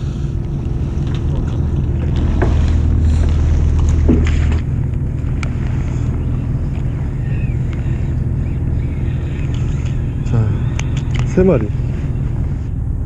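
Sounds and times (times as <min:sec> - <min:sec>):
boat engine humming: 0:00.0 - 0:13.0
wind on microphone: 0:00.0 - 0:13.0.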